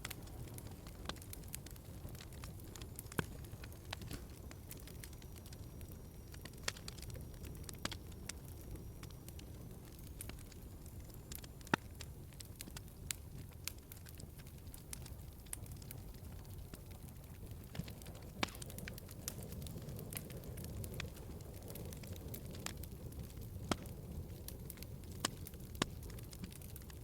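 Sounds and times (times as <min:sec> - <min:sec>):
log fire crackling: 0:00.0 - 0:27.0.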